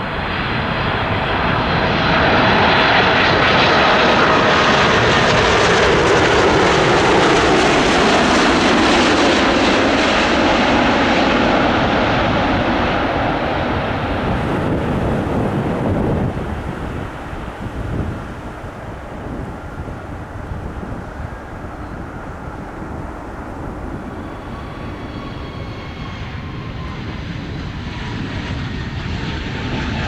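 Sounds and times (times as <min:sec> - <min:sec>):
jet engine of landing plane: 0:00.0 - 0:30.0.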